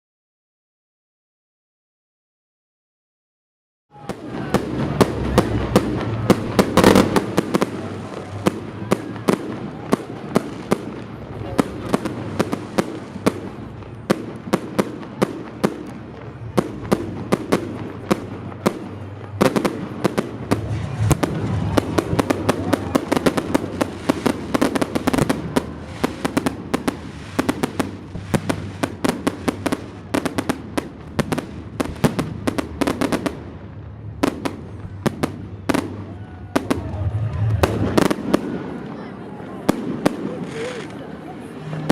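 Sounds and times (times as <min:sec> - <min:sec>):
fireworks bangs and cracks: 0:03.9 - 0:41.9.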